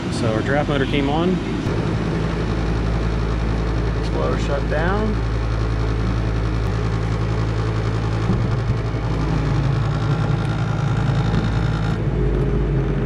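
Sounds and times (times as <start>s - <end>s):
furnace inducer motor hum: 0.0s - 13.0s
gas burners lighting: 0.7s - 13.0s.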